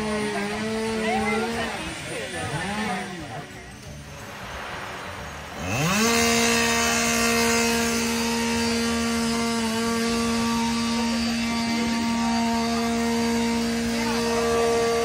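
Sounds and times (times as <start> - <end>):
chainsaw at full throttle: 0.0 - 15.0.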